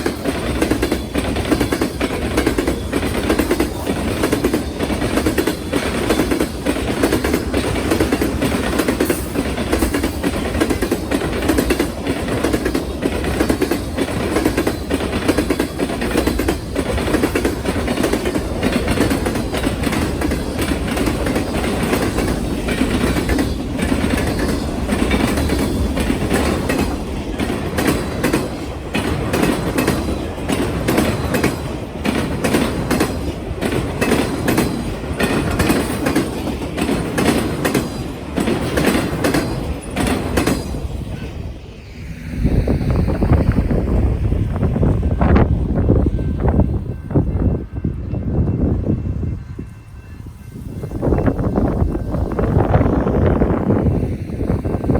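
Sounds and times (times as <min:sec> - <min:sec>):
train cars rumbling: 0:00.0 - 0:54.9.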